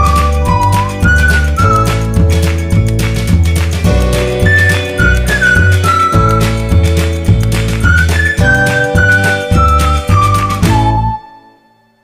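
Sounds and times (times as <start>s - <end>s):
whistle-like lead melody: 0.0s - 2.9s, 3.9s - 12.0s
bass notes: 0.0s - 11.3s.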